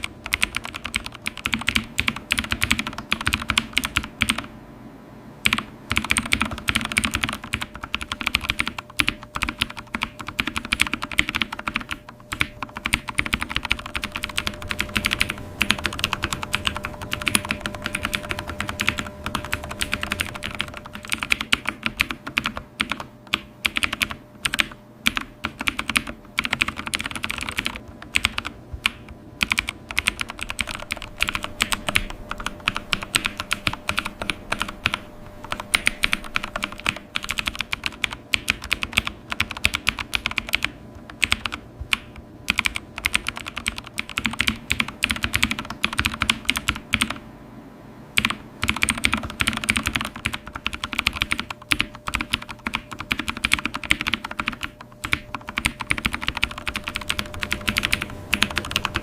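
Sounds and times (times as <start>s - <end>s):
keyboard typing: 0.0s - 4.5s, 5.4s - 47.2s, 48.2s - 59.0s.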